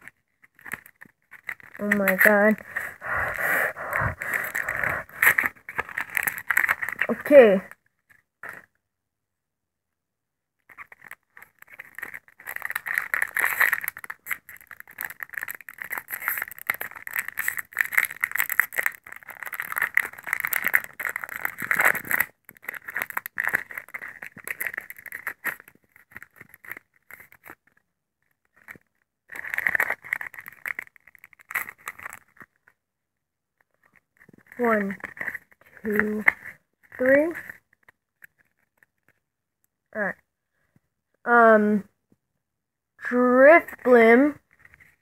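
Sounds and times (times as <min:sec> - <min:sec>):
foil wrapper crinkling: 0:00.0 - 0:08.2, 0:10.6 - 0:32.8, 0:33.6 - 0:39.2, 0:44.5 - 0:45.0.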